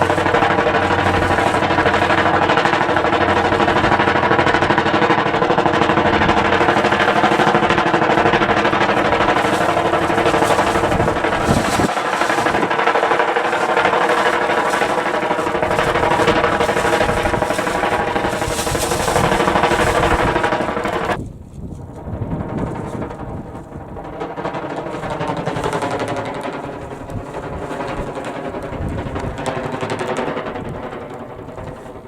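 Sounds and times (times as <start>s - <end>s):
kite buzzing in wind: 0.0s - 32.0s.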